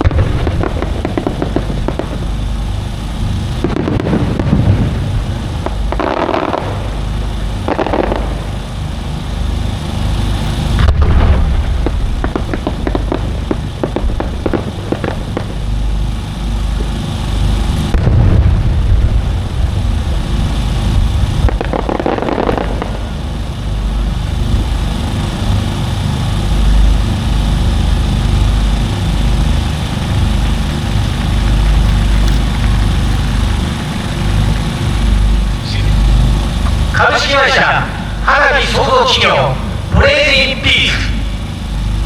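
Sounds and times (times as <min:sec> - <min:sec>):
fireworks crackling: 0:00.0 - 0:41.7
firework bursts: 0:00.0 - 0:42.0
steady low rumble: 0:00.0 - 0:42.0.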